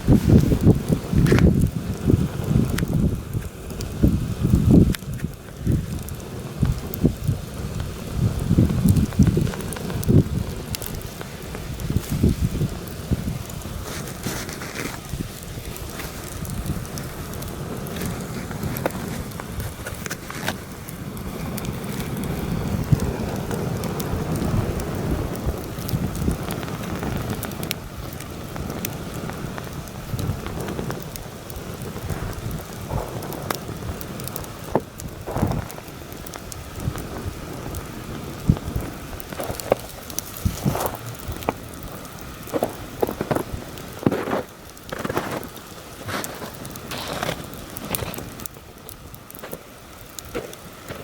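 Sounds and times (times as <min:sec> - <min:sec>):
campfire crackling and popping: 0:00.0 - 0:51.0
wind buffeting microphone: 0:00.0 - 0:51.0.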